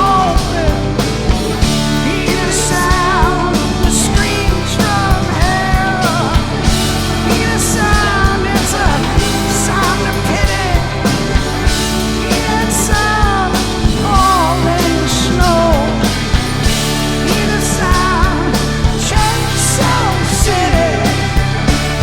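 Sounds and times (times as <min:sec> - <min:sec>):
drums keeping steady beat: 0:00.0 - 0:22.0
live rock band playing: 0:00.0 - 0:22.0.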